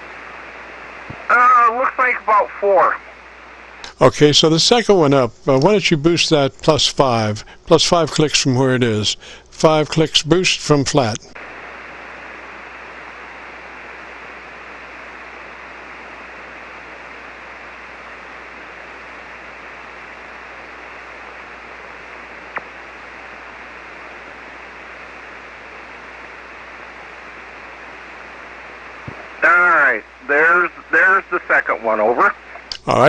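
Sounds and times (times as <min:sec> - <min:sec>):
faint low hum: 0:00.0 - 0:33.0
radio static hiss: 0:00.0 - 0:33.0.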